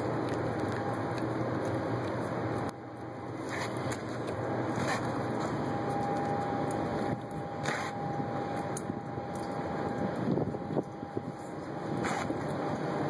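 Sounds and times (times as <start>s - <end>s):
street noise hum: 0.0s - 13.0s.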